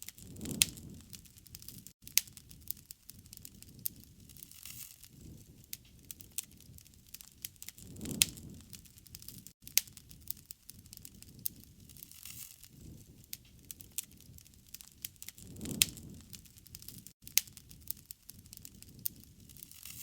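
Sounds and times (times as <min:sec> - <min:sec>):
campfire crackling and popping: 0:00.0 - 0:20.0
flames rushing: 0:00.1 - 0:01.9, 0:02.5 - 0:09.5, 0:10.1 - 0:20.0.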